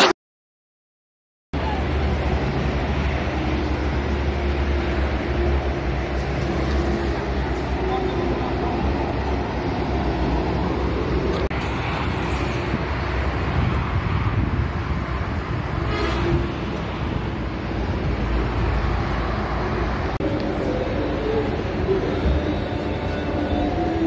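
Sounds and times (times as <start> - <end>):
highway traffic rumble: 1.5 - 24.0.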